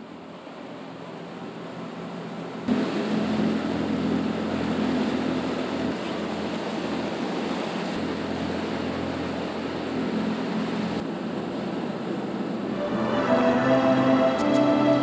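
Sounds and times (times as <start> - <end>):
boat engine hum: 0.0 - 15.0
water rushing in wake: 2.0 - 15.0.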